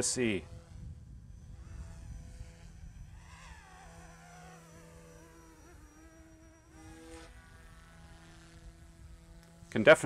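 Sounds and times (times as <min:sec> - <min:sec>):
rc helicopter rotor whine: 0:00.0 - 0:10.0.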